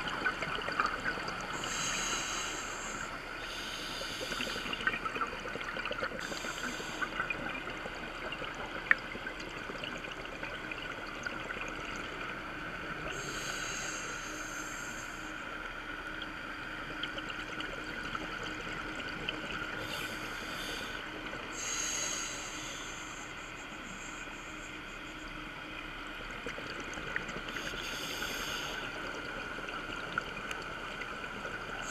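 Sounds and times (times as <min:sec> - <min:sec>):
underwater hiss and crackle: 0:00.0 - 0:31.9.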